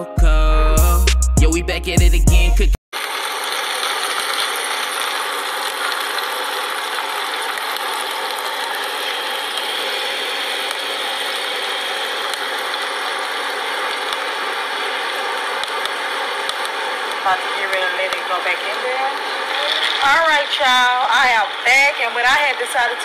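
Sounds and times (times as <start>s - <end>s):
air fryer fan whirring: 3.0s - 23.0s.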